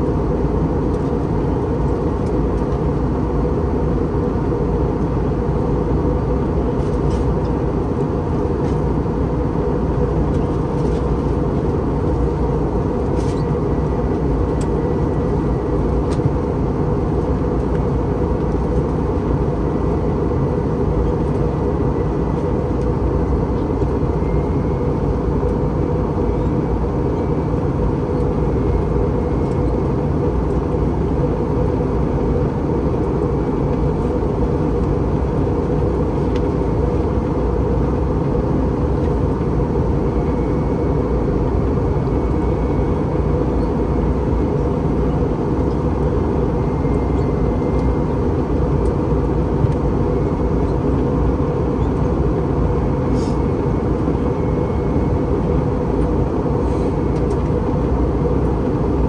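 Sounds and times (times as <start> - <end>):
airliner cabin engine rumble: 0.0 - 59.0
faint high whine: 8.2 - 59.0.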